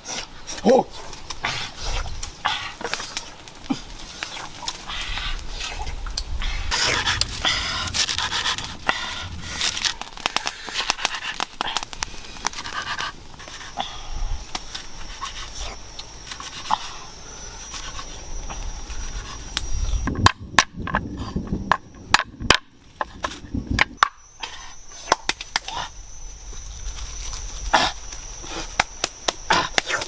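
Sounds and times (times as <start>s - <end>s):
high-pitched tone humming: 4.8s - 30.0s.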